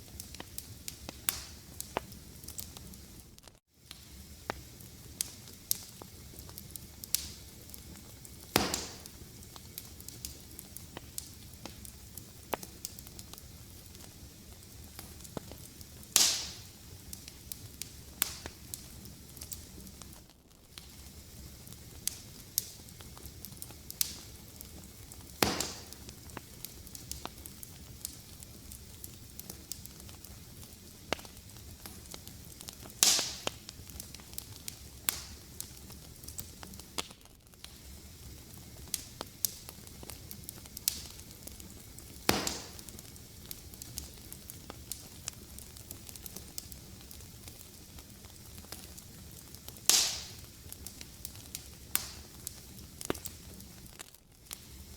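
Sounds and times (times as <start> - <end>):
fire crackling: 0.0 - 54.9
fire popping: 0.0 - 54.9.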